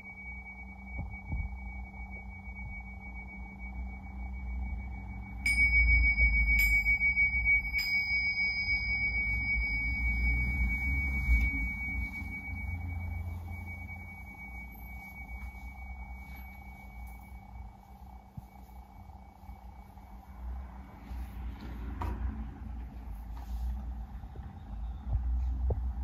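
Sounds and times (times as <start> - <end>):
tingsha cymbals ringing: 0.0 - 21.5
low hum: 0.0 - 26.0.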